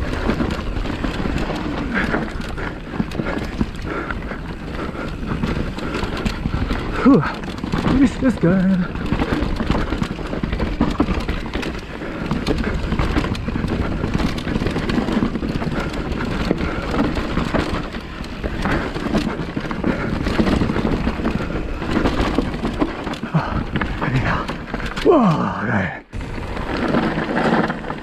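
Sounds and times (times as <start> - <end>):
bike rattling: 0.0 - 28.0
tyres rumbling over dirt: 0.0 - 28.0.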